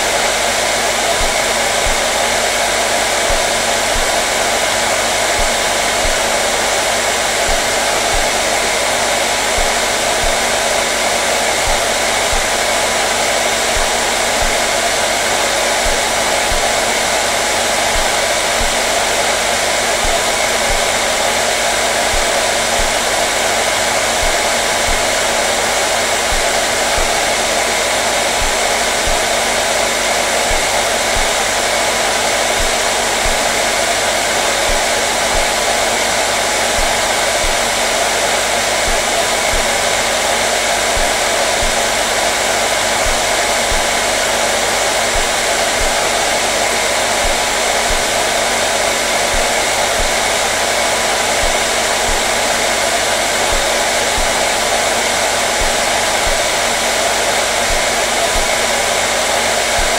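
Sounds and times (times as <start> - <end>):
motor hum: 0.0 - 59.1
hair dryer rush of air: 0.0 - 59.9.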